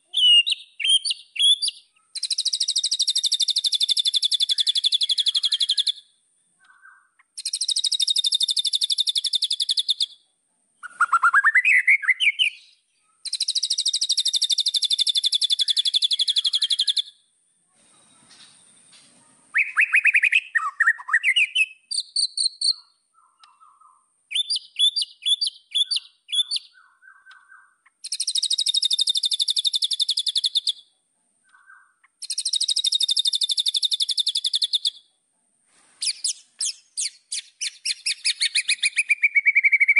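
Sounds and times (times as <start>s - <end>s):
bird whistled phrases: 0.1s - 6.1s, 6.7s - 10.2s, 10.8s - 17.2s, 19.5s - 30.8s, 31.5s - 35.0s, 36.0s - 39.9s.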